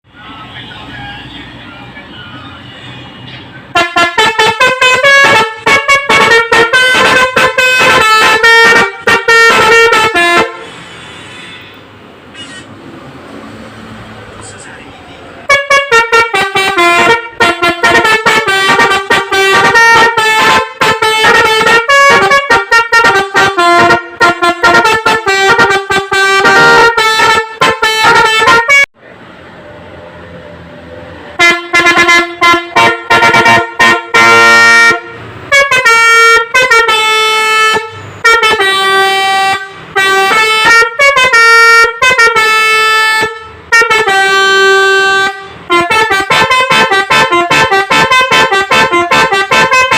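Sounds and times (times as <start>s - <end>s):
musical air horn melody: 3.7s - 12.6s, 15.5s - 28.9s, 31.4s - 49.9s.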